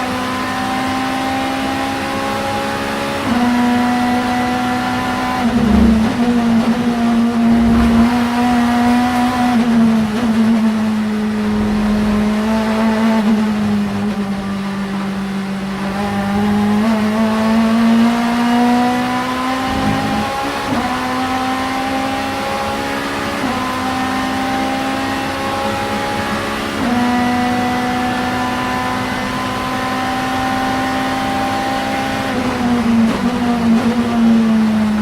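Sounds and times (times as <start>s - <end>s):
race car engine at high revs: 0.0s - 35.0s.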